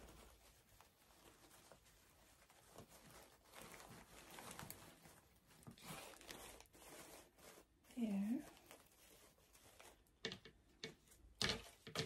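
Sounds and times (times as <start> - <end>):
artificial flowers rustling and clicking: 0.0 - 12.0.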